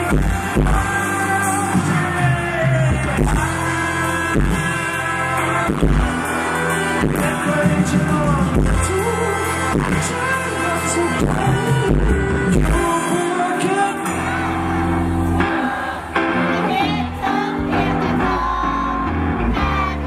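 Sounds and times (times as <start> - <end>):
man singing: 0.0 - 19.8
bass guitar: 0.0 - 20.0
electric guitar: 0.0 - 20.0.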